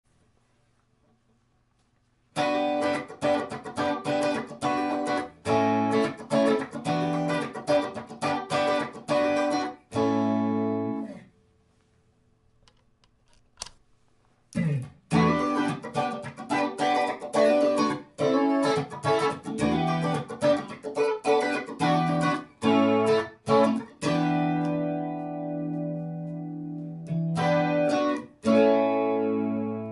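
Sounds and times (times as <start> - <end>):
electric guitar chords with flanging: 2.4 - 11.2, 14.6 - 29.9.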